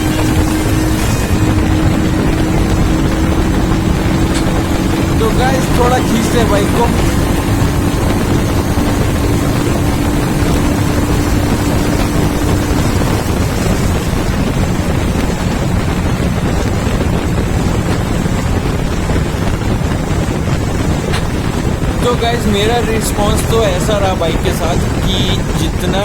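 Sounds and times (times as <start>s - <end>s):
motorcycle engine running: 0.0s - 26.0s
steady tone: 0.0s - 26.0s
wind rushing over microphone: 0.0s - 26.0s.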